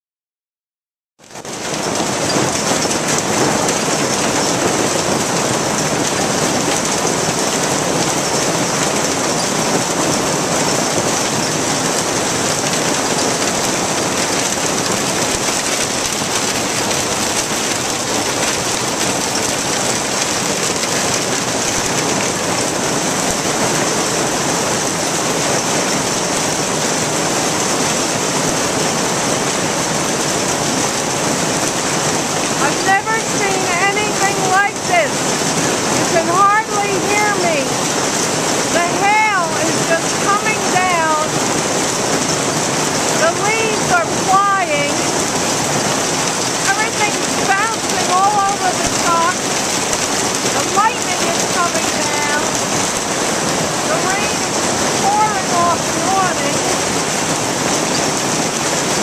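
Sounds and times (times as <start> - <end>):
hailstones pelting down: 1.2 - 59.0.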